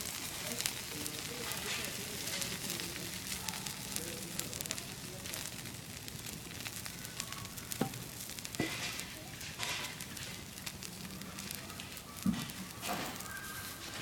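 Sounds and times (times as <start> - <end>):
fire crackling and hissing: 0.0 - 14.0
fire popping: 0.0 - 14.0.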